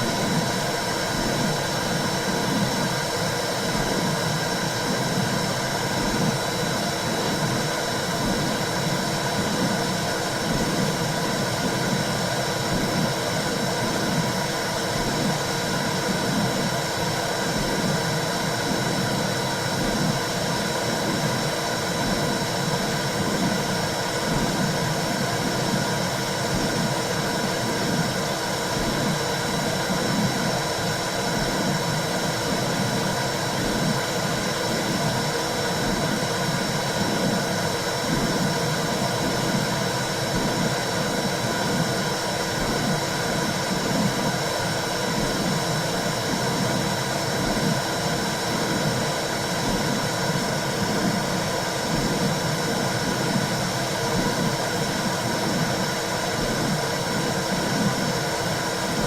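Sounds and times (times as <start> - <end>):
heartbeat throb: 0.0 - 59.0.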